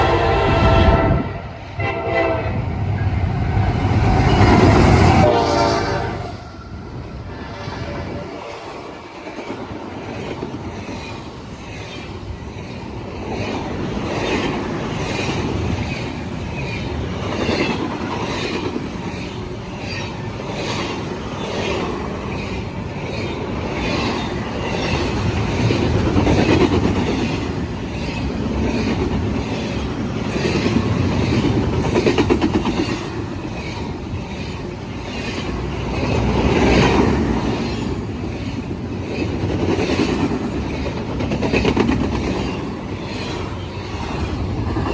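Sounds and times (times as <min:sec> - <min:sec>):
train rumble: 0:00.0 - 0:44.9
train wheels clacking on rail joints: 0:08.4 - 0:44.9.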